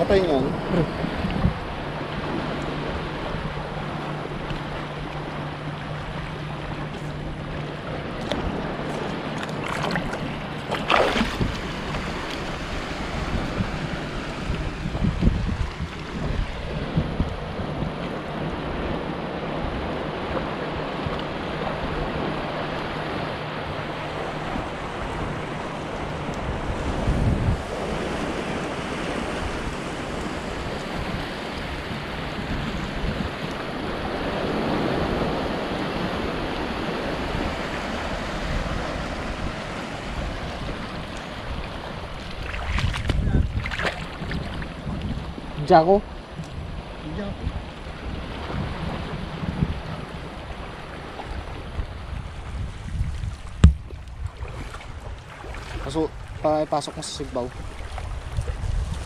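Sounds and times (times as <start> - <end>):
seawater washing: 0.0 - 59.0
wind buffeting microphone: 0.0 - 59.0.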